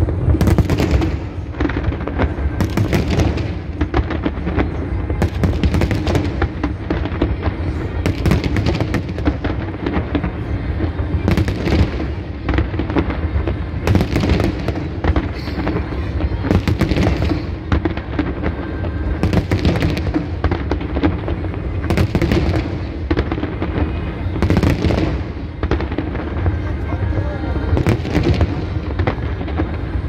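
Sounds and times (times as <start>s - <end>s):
continuous rumble: 0.0s - 30.0s
fireworks booming: 0.0s - 30.0s.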